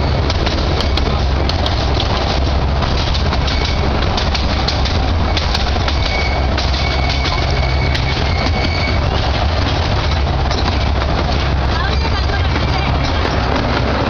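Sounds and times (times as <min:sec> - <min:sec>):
toy train rumbling: 0:00.0 - 0:14.0
wheels clicking on rails: 0:00.0 - 0:14.0.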